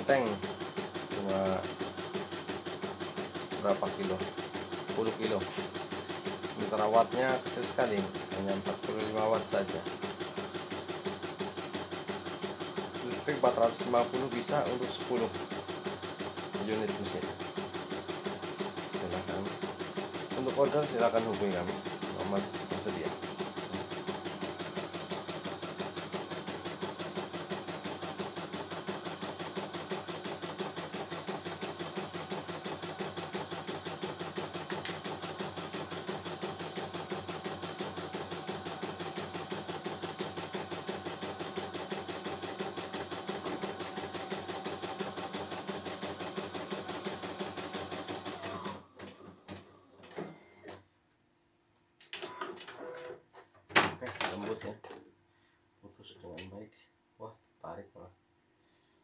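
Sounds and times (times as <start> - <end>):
embroidery machine needle stitching: 0.0 - 50.2.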